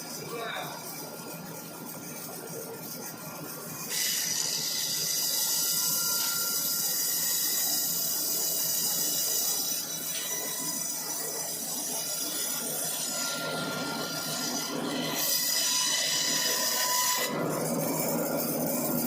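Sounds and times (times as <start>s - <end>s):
band sawmill running: 0.0s - 19.0s.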